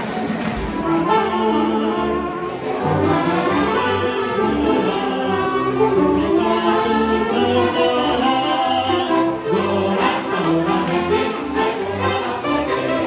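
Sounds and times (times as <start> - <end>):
accordion: 0.6 - 13.0
saxophone: 0.7 - 13.0
trumpet: 0.7 - 13.0.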